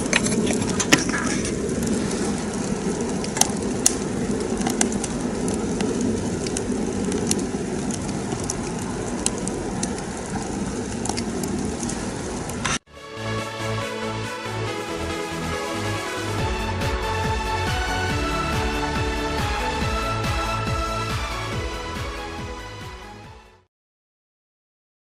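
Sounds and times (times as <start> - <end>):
fire roaring in a stove: 0.0 - 12.8, 13.6 - 23.2
burning wood crackling: 0.0 - 23.3.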